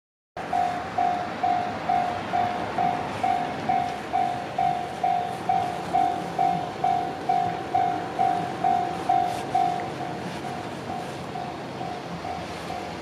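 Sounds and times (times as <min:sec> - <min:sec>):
level crossing alarm bell: 0:00.4 - 0:13.0.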